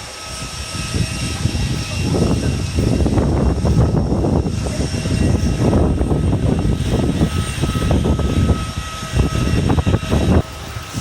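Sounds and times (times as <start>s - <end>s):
gusty wind buffeting microphone: 0.0s - 11.0s
jet engines whining: 0.0s - 11.0s.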